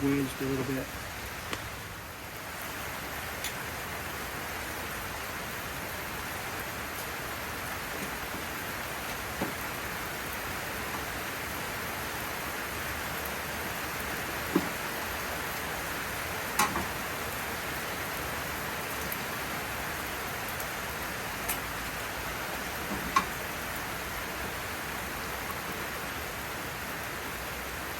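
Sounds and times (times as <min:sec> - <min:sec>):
heavy rain pouring: 0:00.0 - 0:27.9.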